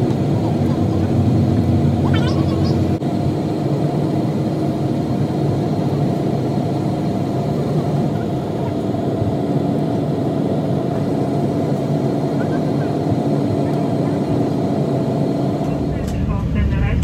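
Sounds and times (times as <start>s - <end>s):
airliner engines humming: 0.0s - 17.0s.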